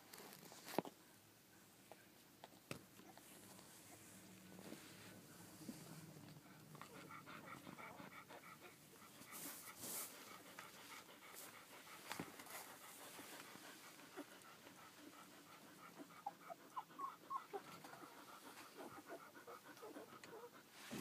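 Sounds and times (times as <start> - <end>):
dog panting: 3.1 - 21.0.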